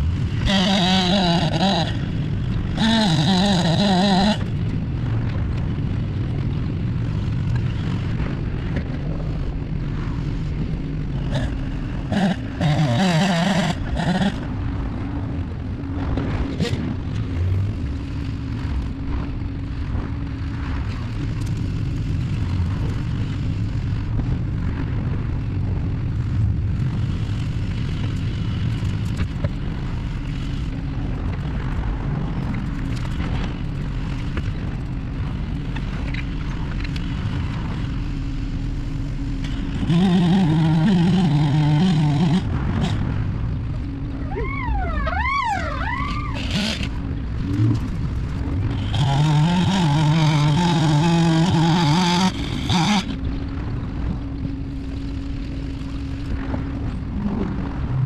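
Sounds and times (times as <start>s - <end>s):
engine machinery rumbling: 0.0s - 58.0s.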